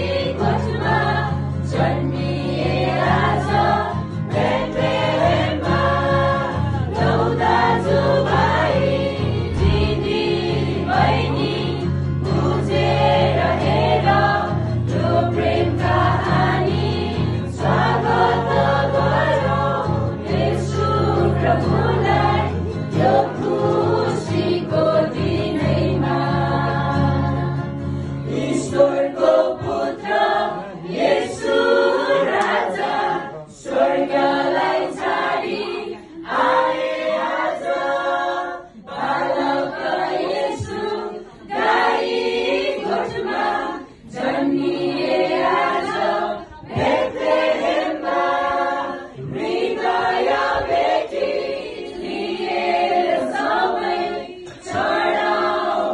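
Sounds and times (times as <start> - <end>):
choir singing a carol: 0.0 - 55.9.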